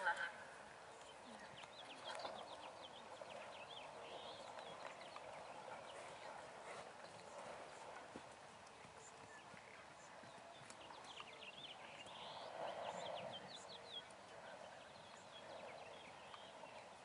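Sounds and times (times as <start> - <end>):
hoofbeats on sand: 1.2 - 16.8.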